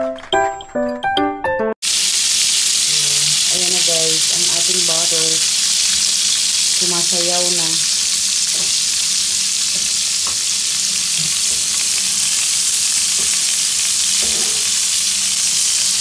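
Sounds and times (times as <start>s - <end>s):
butter and oil sizzling in a wok: 1.8s - 16.0s.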